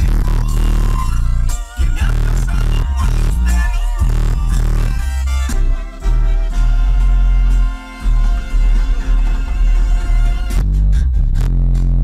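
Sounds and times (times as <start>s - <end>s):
bass-heavy music through subwoofers: 0.0s - 12.0s.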